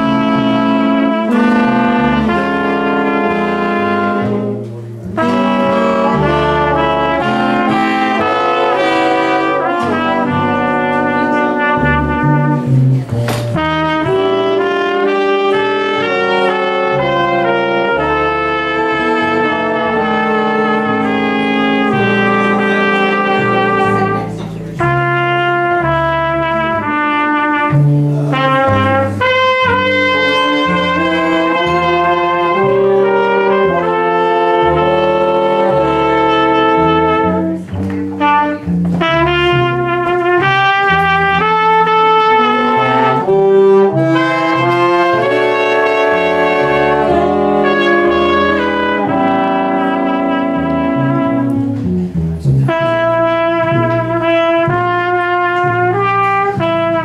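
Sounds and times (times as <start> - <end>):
trumpets and trombone playing chords: 0.0 - 57.0.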